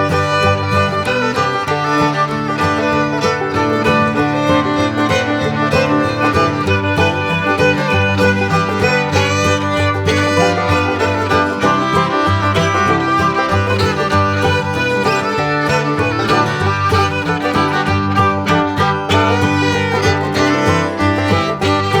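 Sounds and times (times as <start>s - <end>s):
upbeat bluegrass music: 0.0s - 22.0s.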